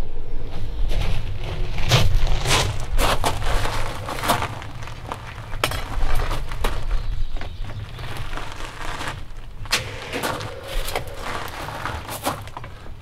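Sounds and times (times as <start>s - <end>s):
furnace rumbling: 0.9s - 13.0s.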